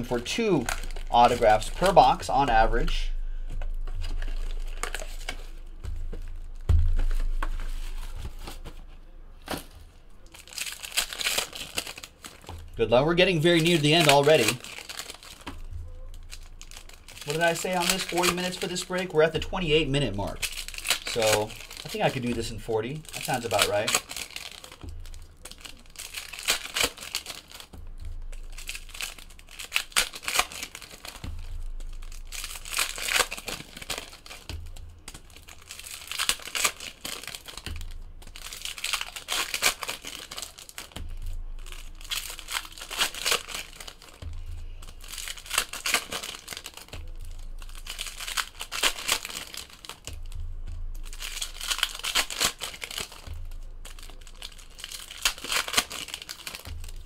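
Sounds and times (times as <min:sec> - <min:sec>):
cards being handled: 0:00.0 - 0:57.0
foil wrappers crinkling and tearing: 0:00.0 - 0:57.0.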